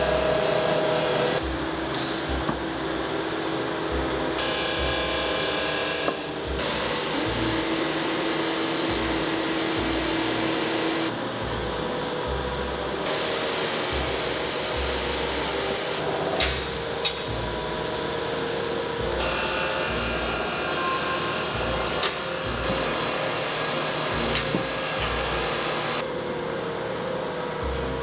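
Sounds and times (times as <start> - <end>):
factory machinery hum and hiss: 0.0 - 28.0.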